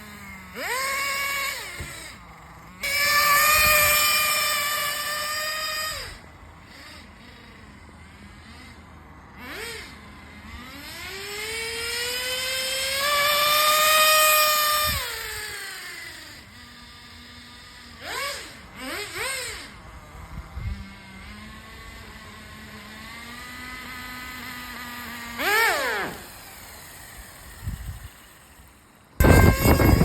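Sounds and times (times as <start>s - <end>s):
nitro engine whining and revving: 0.0s - 30.0s.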